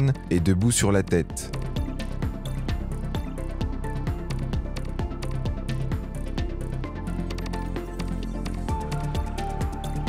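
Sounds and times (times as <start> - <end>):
electronic beat music: 1.2 - 10.0.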